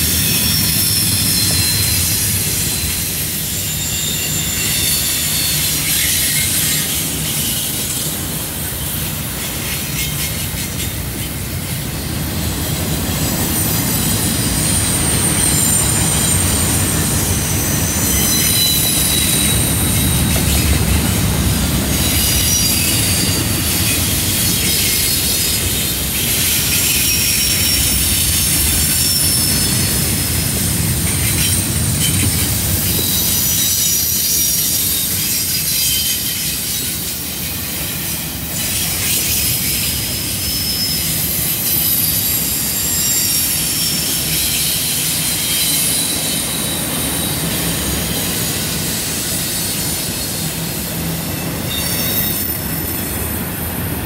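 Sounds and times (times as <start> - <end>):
low rumble of rail cars: 0.0 - 54.0
train wheels squealing on rail: 0.0 - 54.0.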